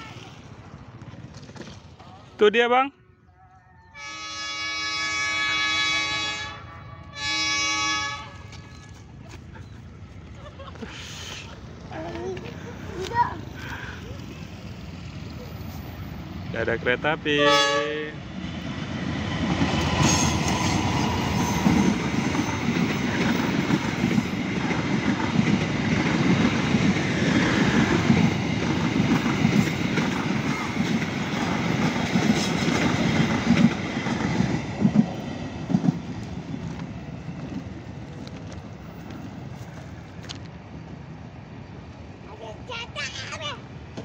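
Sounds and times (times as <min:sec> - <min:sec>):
passenger train rumbling past: 0:00.0 - 0:03.1, 0:03.9 - 0:44.0.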